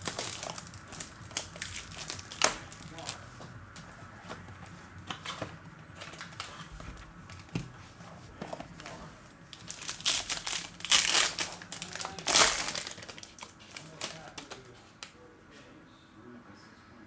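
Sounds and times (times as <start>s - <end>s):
plastic packaging crinkling and tearing: 0.0s - 15.2s.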